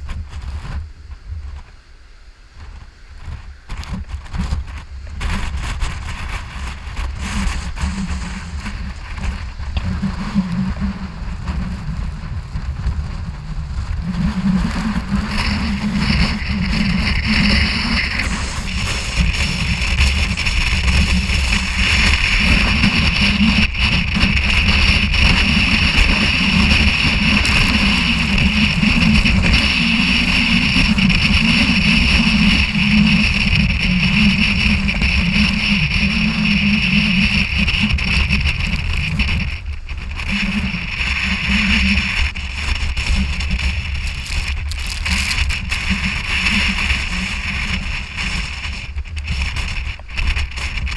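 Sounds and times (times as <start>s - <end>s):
wind buffeting microphone: 2.5s - 50.9s.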